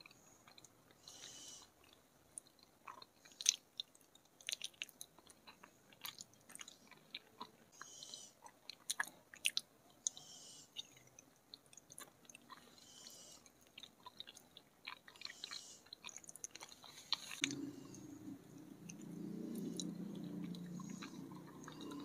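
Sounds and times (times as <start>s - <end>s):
low steady hum: 0.0s - 22.0s
wet chewing: 0.0s - 22.0s.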